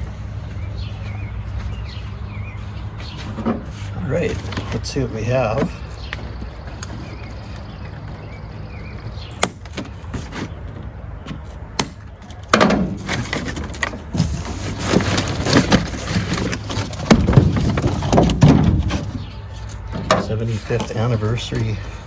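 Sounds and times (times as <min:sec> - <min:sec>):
cardboard packaging rustling: 0:03.2 - 0:21.8.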